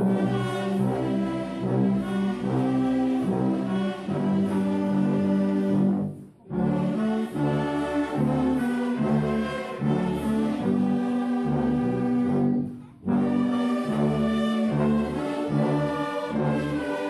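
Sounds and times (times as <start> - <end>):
orchestral brass chords: 0.0 - 17.0.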